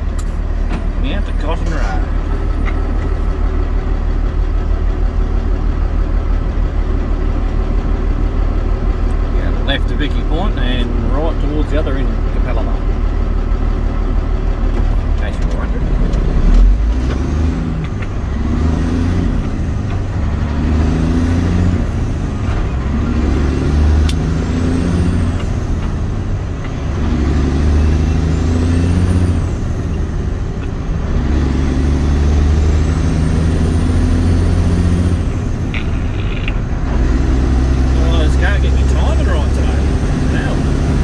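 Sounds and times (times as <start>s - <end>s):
truck engine accelerating: 0.0s - 41.0s.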